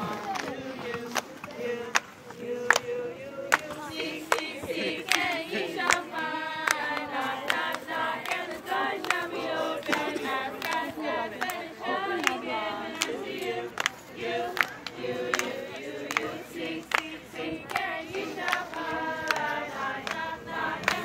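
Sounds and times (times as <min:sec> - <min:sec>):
hand claps: 0:00.0 - 0:02.9, 0:03.5 - 0:21.0
group singing a worship song: 0:00.0 - 0:21.0.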